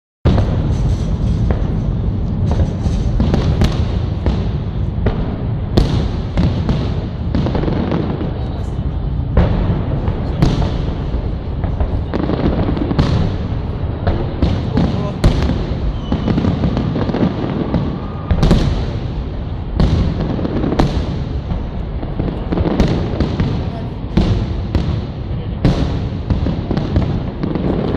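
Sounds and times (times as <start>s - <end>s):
fireworks bangs: 0.3s - 27.9s.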